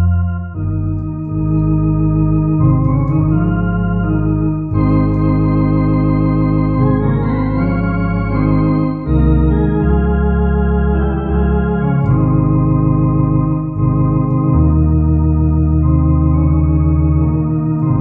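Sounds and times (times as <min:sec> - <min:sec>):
electronic organ playing hymn: 0:00.0 - 0:18.0.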